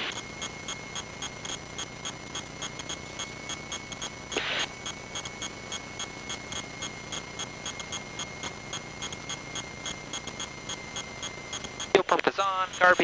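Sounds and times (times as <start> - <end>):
rapid electronic beeping: 0.0 - 13.0.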